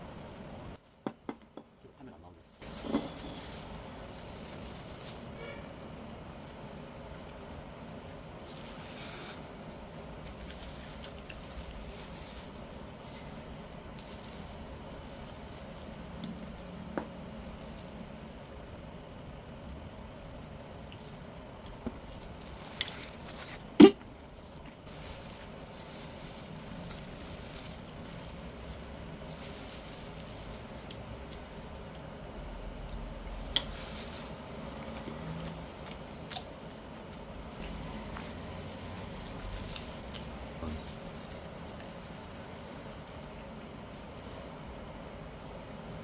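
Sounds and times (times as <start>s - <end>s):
low background hum: 0.0s - 46.0s.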